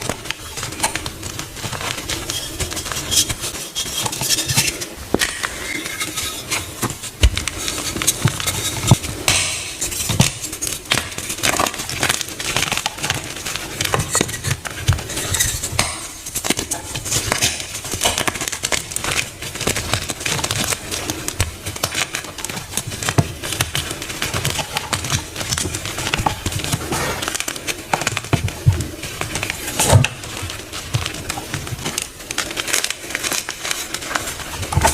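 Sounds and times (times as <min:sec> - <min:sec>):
blocks crunching and crumbling: 0:00.0 - 0:34.9.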